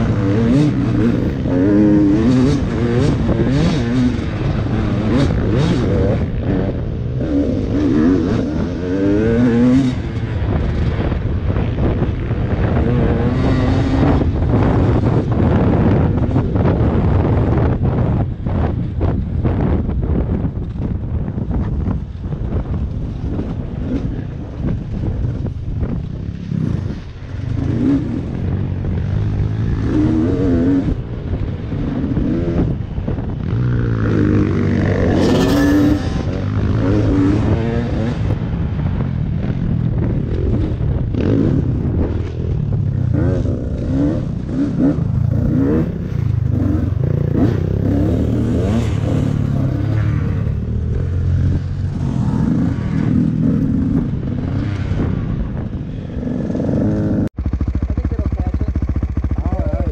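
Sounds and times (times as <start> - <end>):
dirt bike engine revving: 0.0 - 17.7, 25.8 - 59.9.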